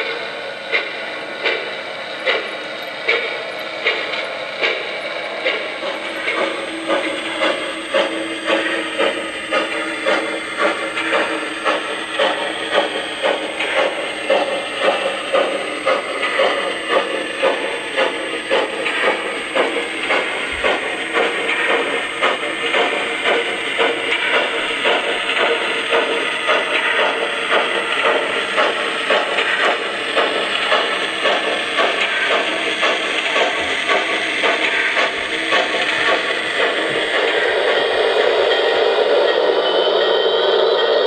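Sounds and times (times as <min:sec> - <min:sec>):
model steam locomotive chuffing: 0:00.0 - 0:41.0.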